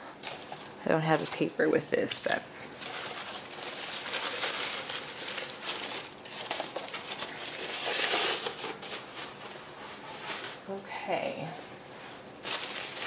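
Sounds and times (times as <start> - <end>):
crinkly paper rustling: 0.1 - 13.0.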